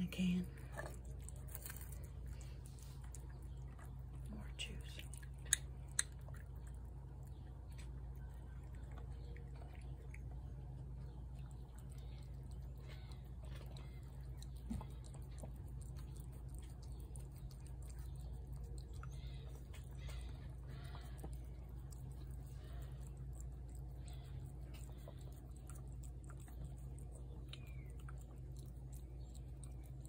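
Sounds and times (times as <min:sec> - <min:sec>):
cat chewing and licking: 0:00.0 - 0:30.0
steady low hum: 0:00.0 - 0:30.0.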